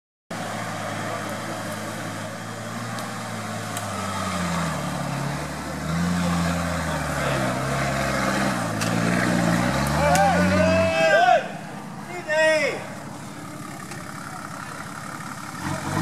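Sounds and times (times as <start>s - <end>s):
four-wheel drive engine revving: 0.3s - 16.0s.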